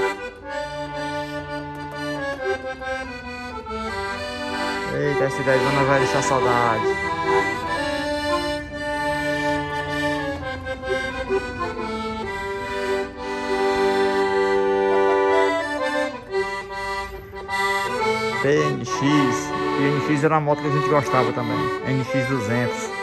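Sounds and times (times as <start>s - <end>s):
accordion playing: 0.0s - 23.0s.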